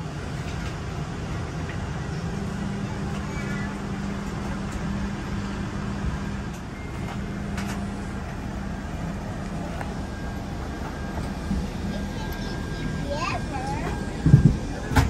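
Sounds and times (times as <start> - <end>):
constant rumble: 0.0 - 15.0
low mechanical hum: 0.0 - 15.0.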